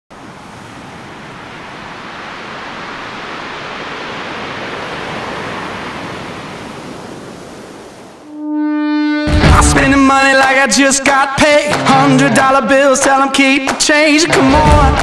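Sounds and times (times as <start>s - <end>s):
sea surf washing: 0.1s - 14.8s.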